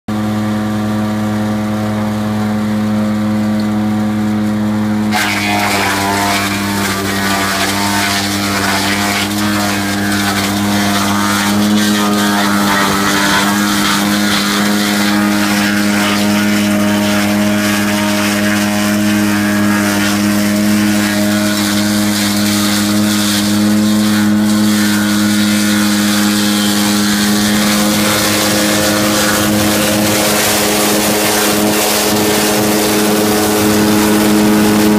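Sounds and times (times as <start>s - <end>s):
chipper engine running: 0.1s - 34.9s
branches crackling through chipper: 5.0s - 34.9s.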